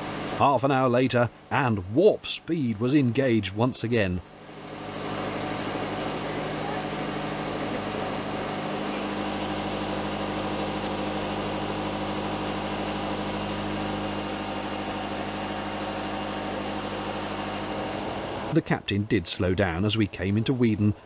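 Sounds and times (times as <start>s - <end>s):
diesel boat engine droning: 0.0s - 21.0s.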